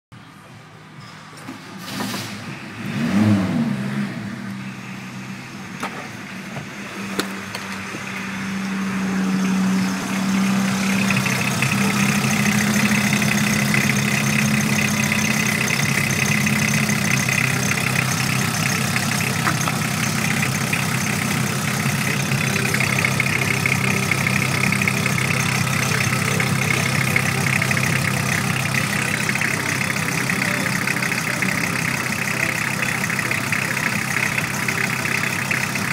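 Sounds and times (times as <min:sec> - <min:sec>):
diesel engine starting and idling: 0:01.2 - 0:35.9.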